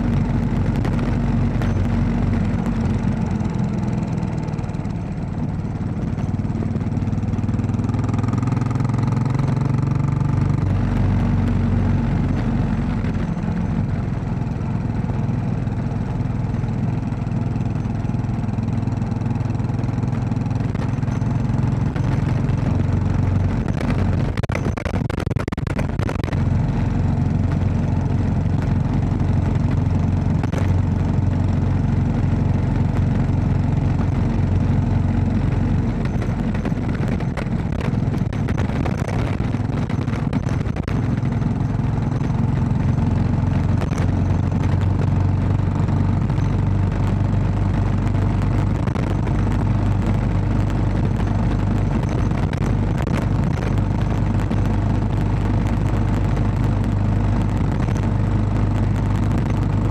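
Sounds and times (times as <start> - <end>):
knocks and rattles: 0.0 - 4.4, 5.8 - 7.1, 7.7 - 14.0, 19.4 - 59.9
motorcycle engine running: 0.0 - 59.9.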